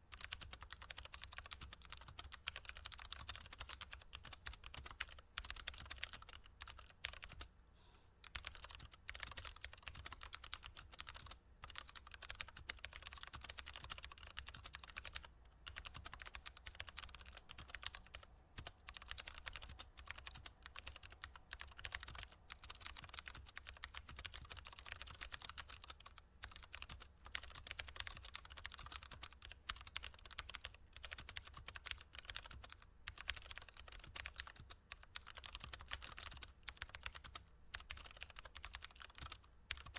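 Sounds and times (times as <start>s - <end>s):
faint low hum: 0.0s - 39.9s
keyboard typing clicks: 0.1s - 7.5s, 8.2s - 39.9s.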